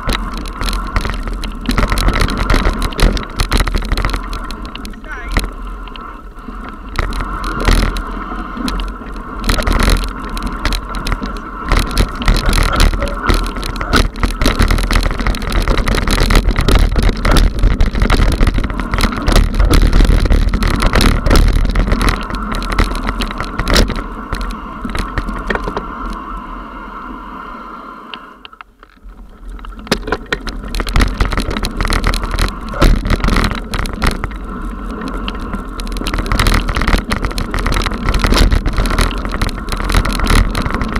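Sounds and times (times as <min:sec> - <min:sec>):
bike rattling and knocking: 0:00.0 - 0:06.0, 0:06.7 - 0:25.8, 0:28.7 - 0:40.9
tyre noise on loose dirt: 0:00.0 - 0:26.3, 0:28.5 - 0:40.9
low wind rumble: 0:00.0 - 0:40.9.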